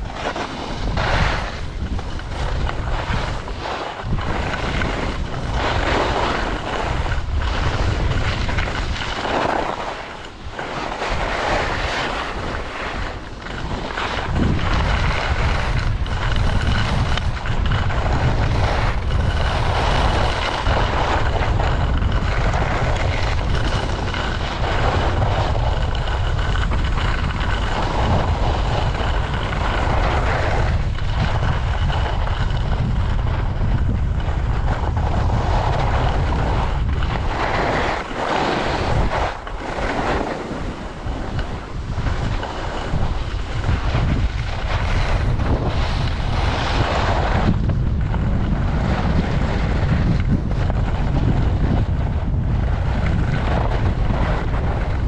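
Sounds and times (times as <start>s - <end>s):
skis hissing and scraping on snow: 0.0s - 55.0s
wind rumbling on microphone: 0.0s - 55.0s.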